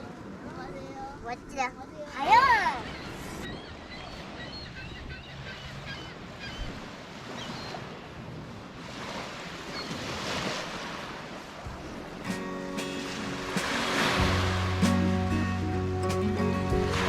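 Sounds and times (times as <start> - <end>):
lake surf: 0.0 - 17.0.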